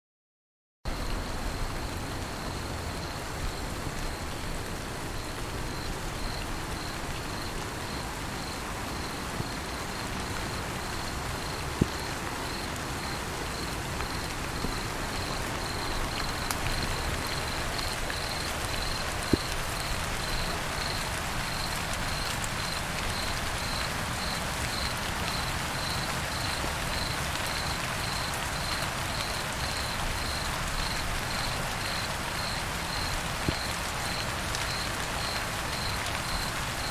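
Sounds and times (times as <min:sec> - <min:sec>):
crickets chirping: 0:00.9 - 0:36.9
light rain hissing: 0:00.9 - 0:36.9.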